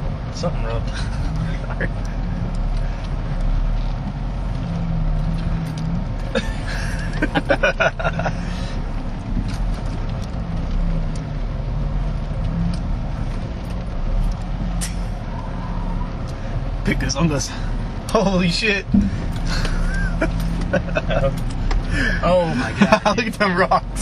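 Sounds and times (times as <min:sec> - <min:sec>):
truck engine rumbling at low speed: 0:00.0 - 0:24.0.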